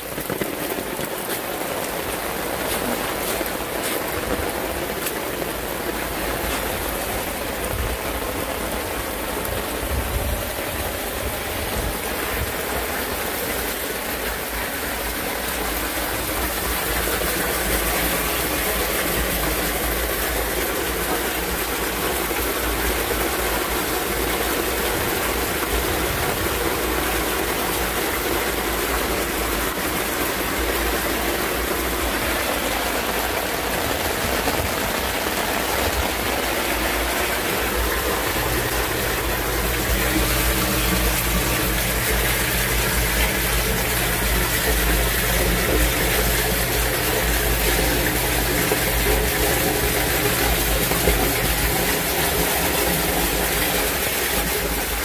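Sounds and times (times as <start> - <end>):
torrential rain: 0.0 - 55.0
water rushing through drains: 0.0 - 55.0.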